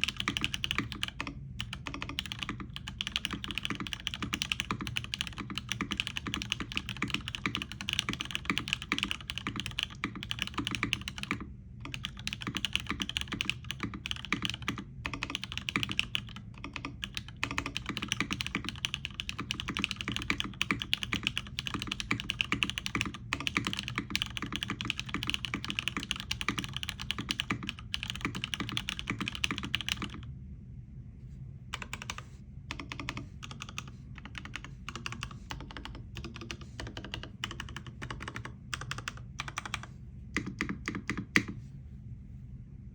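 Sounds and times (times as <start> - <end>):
fast typing on mechanical keyboard: 0.0 - 30.2, 31.8 - 41.6.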